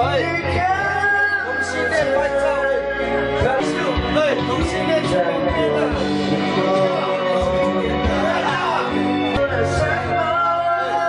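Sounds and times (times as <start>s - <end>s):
steady musical accompaniment: 0.0s - 11.0s.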